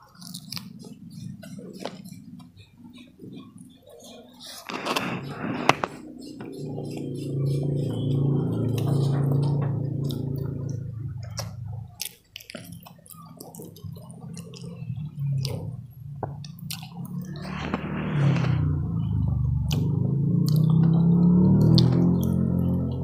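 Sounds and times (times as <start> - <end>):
wet chewing and mouth smacking: 0.0 - 17.5, 19.6 - 22.9
low steady hum: 0.0 - 23.0.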